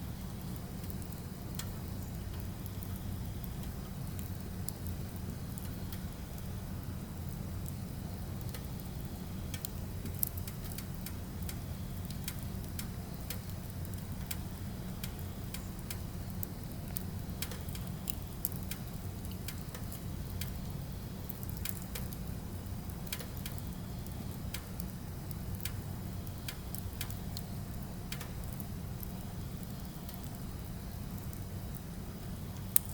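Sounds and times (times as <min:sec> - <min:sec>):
fire low rumble: 0:00.0 - 0:32.9
firewood crackling and popping: 0:00.0 - 0:32.9.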